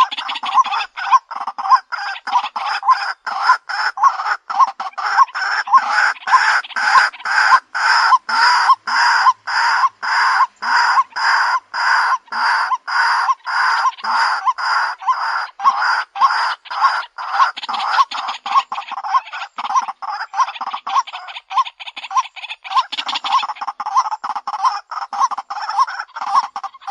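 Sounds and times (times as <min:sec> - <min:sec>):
waterhen calling harsh notes: 0:00.0 - 0:26.9.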